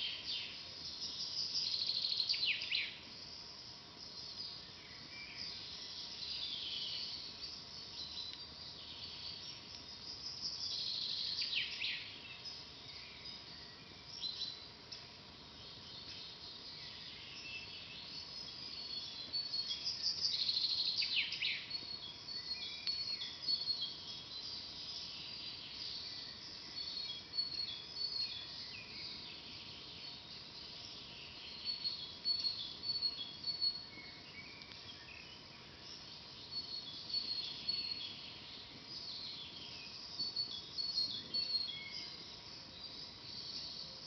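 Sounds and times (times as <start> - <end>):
faint background hiss: 0.0 - 44.0
songbirds chirping: 0.0 - 44.0.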